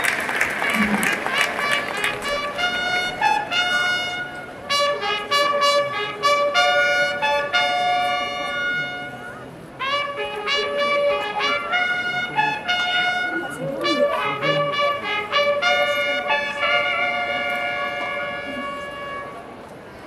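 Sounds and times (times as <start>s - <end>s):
trumpets playing brass fanfare: 0.0s - 19.6s.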